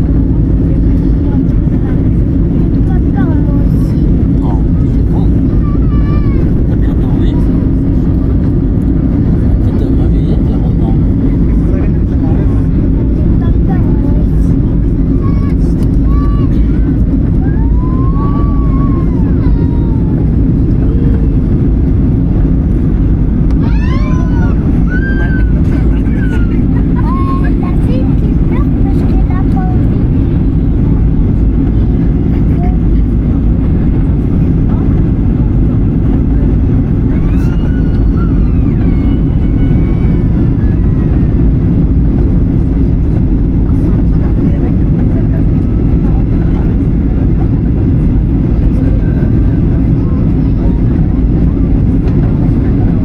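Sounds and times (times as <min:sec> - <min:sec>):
airliner engine rumble: 0:00.0 - 0:53.0
faint voices: 0:00.0 - 0:53.0.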